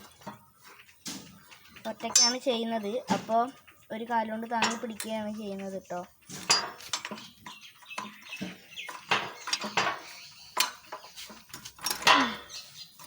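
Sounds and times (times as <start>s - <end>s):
metal clinks and clanks: 0.0s - 13.0s.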